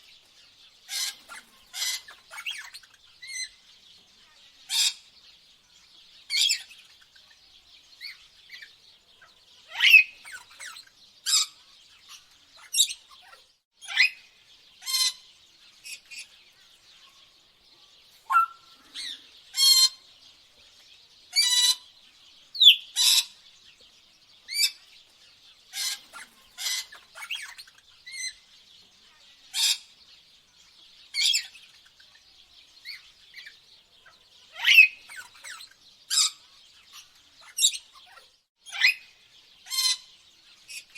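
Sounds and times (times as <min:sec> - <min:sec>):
birds chirping and squawking: 0:00.0 - 0:40.9
faint high bird chatter: 0:00.0 - 0:40.9.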